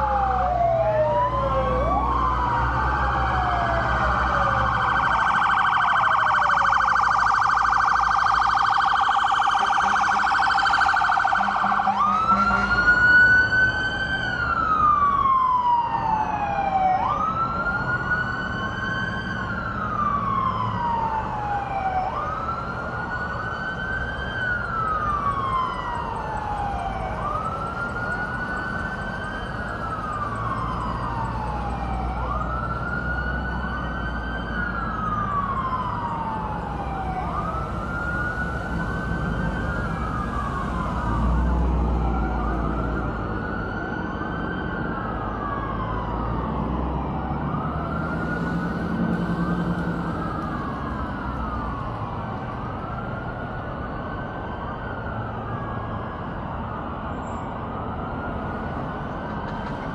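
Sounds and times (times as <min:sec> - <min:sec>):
emergency vehicle siren: 0:00.0 - 0:59.9.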